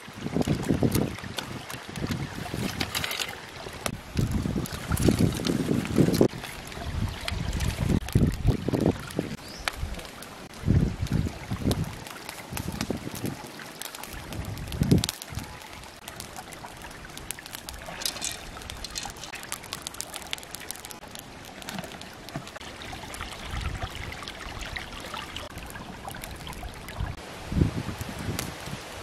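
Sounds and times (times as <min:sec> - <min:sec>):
stream trickling over rocks: 0:00.0 - 0:29.0.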